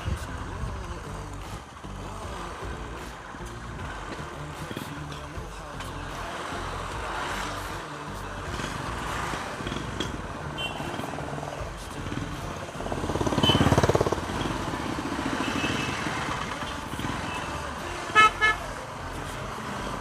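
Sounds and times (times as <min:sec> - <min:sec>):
motorcycle engine revving: 0:00.0 - 0:20.0
road traffic: 0:00.0 - 0:20.0.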